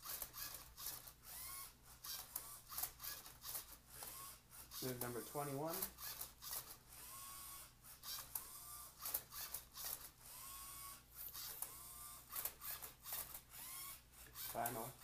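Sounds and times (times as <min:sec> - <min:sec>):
small electric motors whirring: 0:00.0 - 0:15.0.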